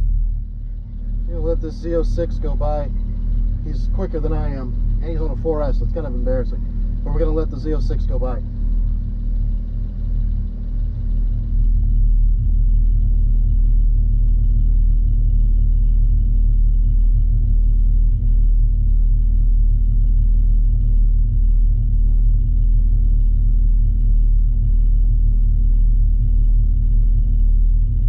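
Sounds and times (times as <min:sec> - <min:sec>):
car engine rumble: 0:00.0 - 0:28.0.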